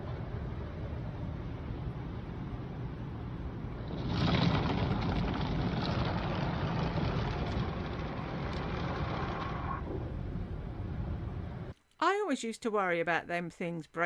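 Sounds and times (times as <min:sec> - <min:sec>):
car wash washing noise: 0:00.0 - 0:11.7
car wash low rumble: 0:00.0 - 0:11.8.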